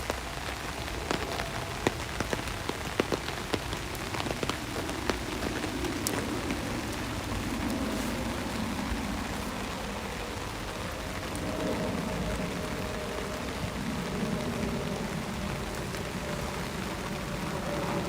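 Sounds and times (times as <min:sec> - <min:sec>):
rain drops ticking on hard surface: 0:00.0 - 0:18.0.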